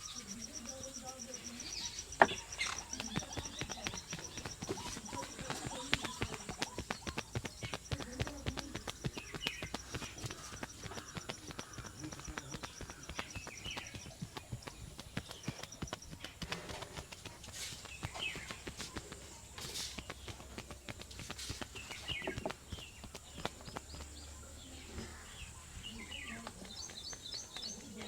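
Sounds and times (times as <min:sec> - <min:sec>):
hands patting on head: 0:01.3 - 0:24.3.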